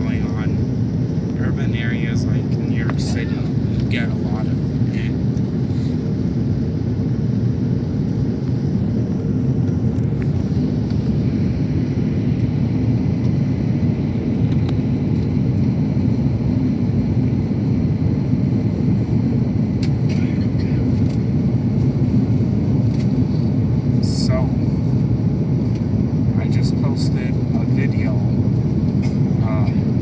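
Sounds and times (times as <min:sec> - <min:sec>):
airplane cabin engine rumble: 0:00.0 - 0:30.0.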